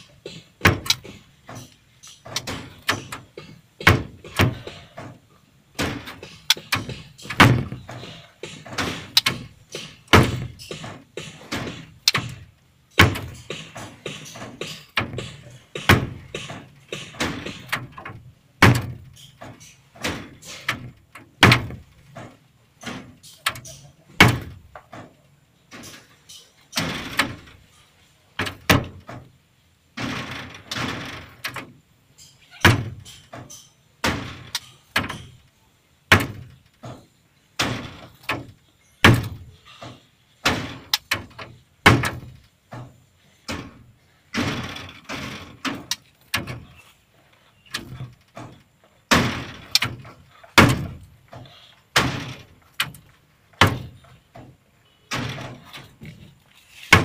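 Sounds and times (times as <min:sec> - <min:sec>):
sharp knocks and bangs: 0:00.0 - 0:27.7, 0:28.4 - 0:46.9, 0:47.6 - 0:57.0.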